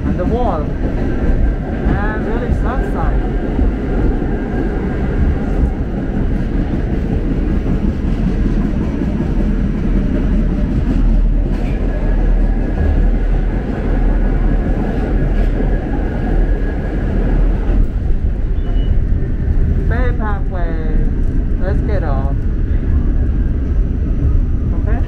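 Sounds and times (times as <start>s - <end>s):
subway train rumbling on track: 0.0s - 25.0s.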